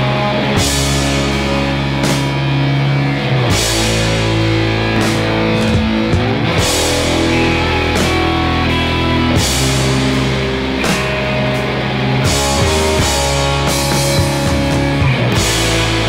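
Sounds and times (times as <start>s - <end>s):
drum kit: 0.0s - 16.0s
electric bass: 0.0s - 16.0s
electric guitar chords: 0.0s - 16.0s.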